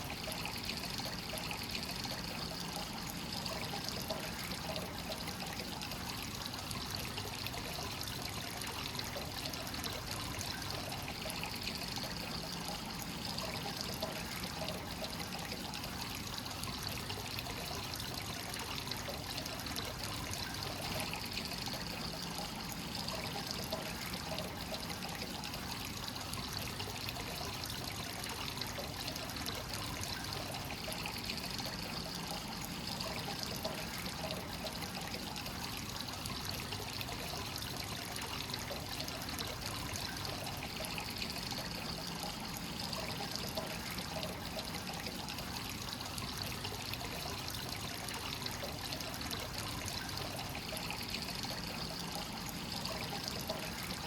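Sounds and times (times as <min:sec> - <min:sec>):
water pouring into a bath: 0:00.0 - 0:54.0.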